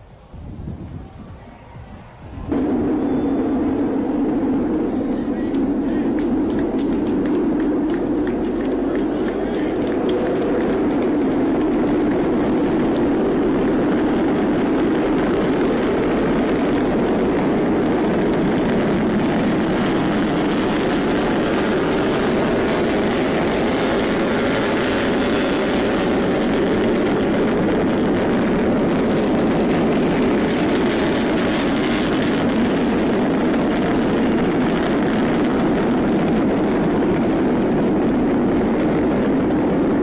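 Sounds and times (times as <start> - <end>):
rocket engine rumbling roar: 1.4 - 40.0.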